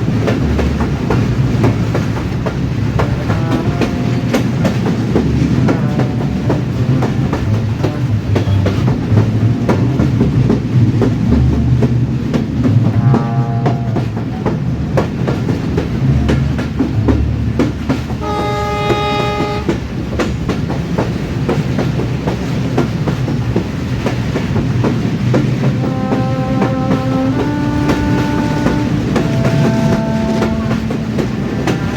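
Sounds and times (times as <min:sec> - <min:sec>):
train horn blast: 0:00.0 - 0:20.2, 0:24.6 - 0:31.9
train wheels rumbling and clattering: 0:00.0 - 0:31.9.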